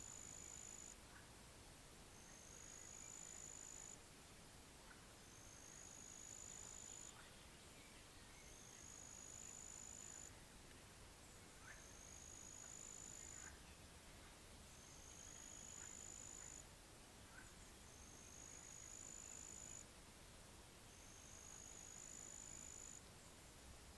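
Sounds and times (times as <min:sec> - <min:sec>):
steady low hiss: 0:00.0 - 0:23.9.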